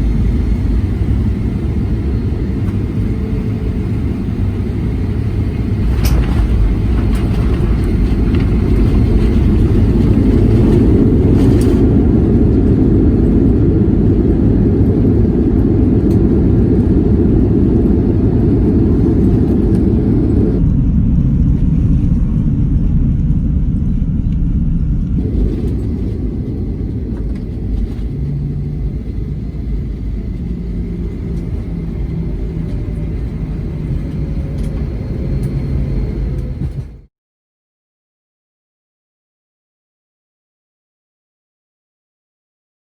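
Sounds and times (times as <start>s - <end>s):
jet engines and wheels rumbling: 0.0s - 37.1s.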